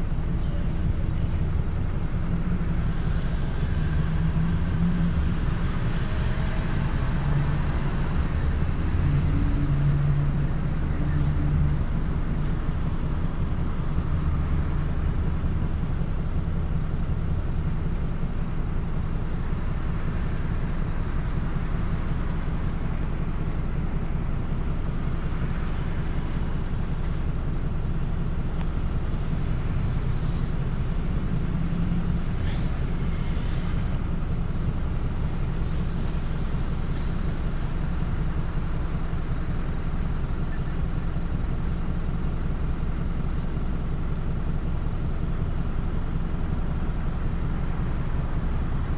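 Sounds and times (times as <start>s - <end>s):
bus engine droning: 0.0s - 48.9s
road noise: 0.0s - 48.9s.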